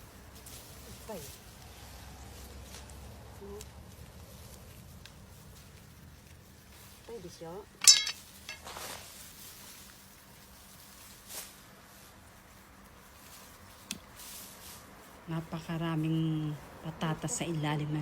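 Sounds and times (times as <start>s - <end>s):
soft rustle: 0.0s - 18.0s.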